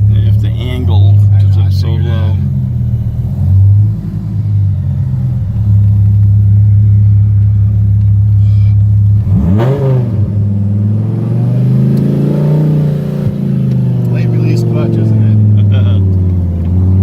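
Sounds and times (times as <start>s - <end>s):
car engine running from inside cabin: 0.0s - 17.0s.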